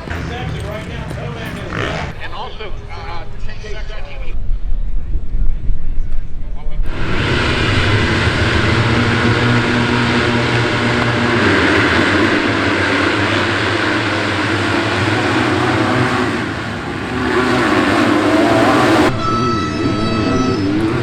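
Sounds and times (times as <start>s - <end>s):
motocross bikes revving: 0.0s - 4.1s, 6.8s - 21.0s.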